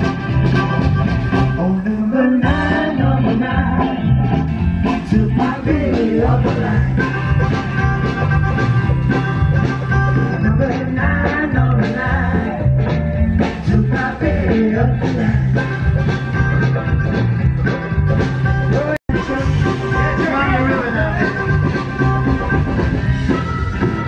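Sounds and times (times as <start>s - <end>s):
live band playing: 0.0s - 24.0s
walking bass line: 0.0s - 24.0s.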